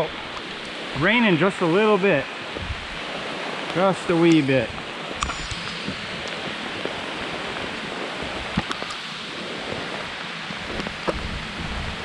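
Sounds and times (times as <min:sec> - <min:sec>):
light rain hissing: 0:00.0 - 0:12.0.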